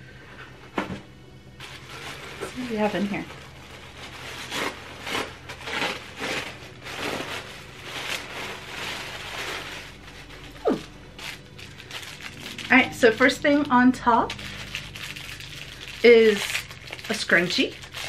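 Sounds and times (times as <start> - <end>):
tissue paper rustling: 1.5 - 18.0.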